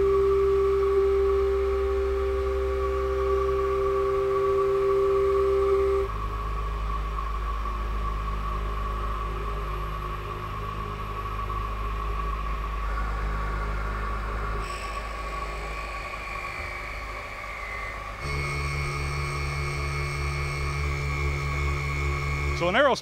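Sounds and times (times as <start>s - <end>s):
machining spindle hum and whine: 0.0s - 23.0s.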